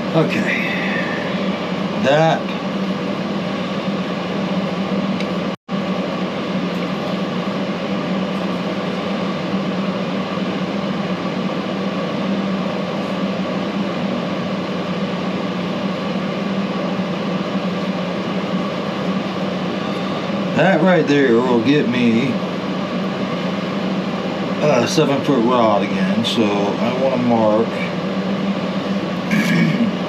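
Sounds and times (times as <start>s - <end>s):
fan humming and rushing air: 0.0s - 30.0s.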